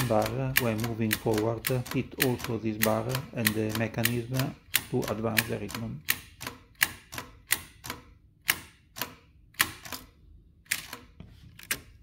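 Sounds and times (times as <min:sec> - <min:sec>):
typewriter typebar clacking: 0:00.0 - 0:10.1.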